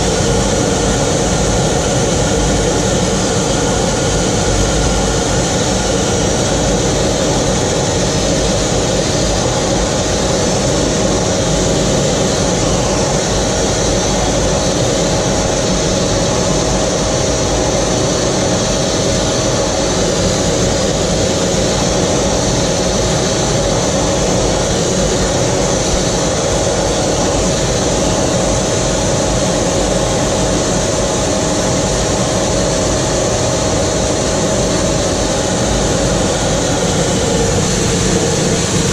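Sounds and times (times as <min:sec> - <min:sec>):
jet engine and airflow noise: 0:00.0 - 0:38.9
steady whine: 0:00.0 - 0:38.9.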